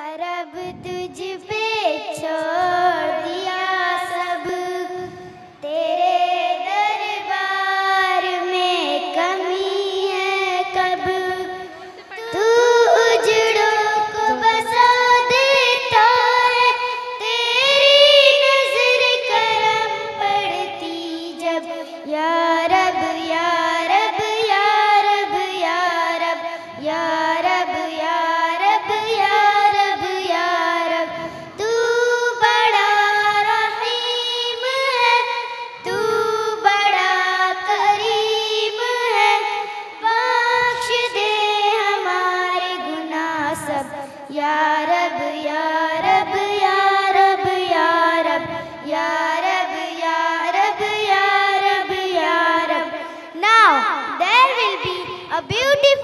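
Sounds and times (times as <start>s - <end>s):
girls singing into microphones: 0.0s - 56.0s.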